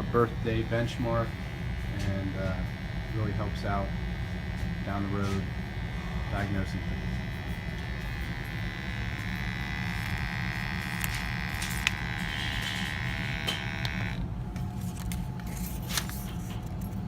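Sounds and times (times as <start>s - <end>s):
high electric buzz: 0.0s - 16.9s
gas furnace low rumble: 0.0s - 17.0s.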